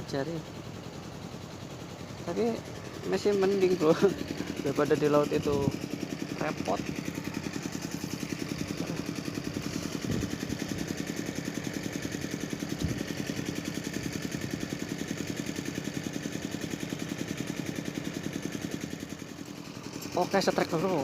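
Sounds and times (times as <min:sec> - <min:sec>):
small engine idling: 0:00.0 - 0:21.0.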